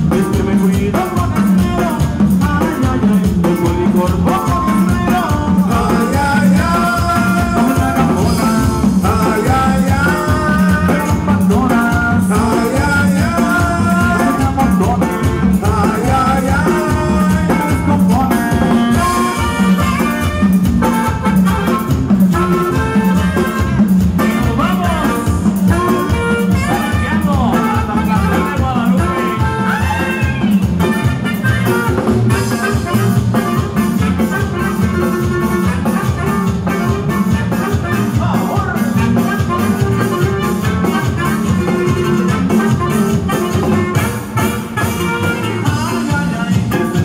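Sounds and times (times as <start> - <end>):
live band with accordion: 0.0 - 47.0.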